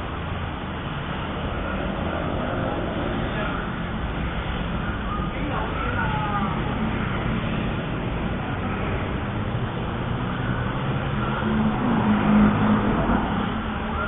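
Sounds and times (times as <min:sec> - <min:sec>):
low rumble of traffic: 0:00.0 - 0:14.0
vehicle passing: 0:00.0 - 0:14.0.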